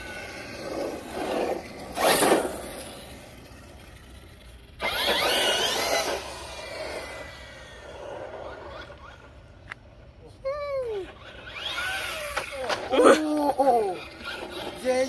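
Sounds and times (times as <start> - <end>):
rc car electric motor accelerating: 0.0 - 9.5, 10.8 - 15.0.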